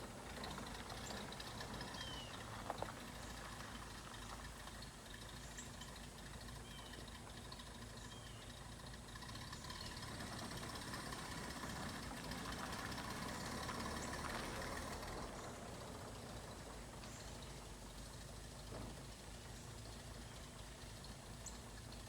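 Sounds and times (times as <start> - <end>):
pickup truck engine idling: 0.0 - 22.0.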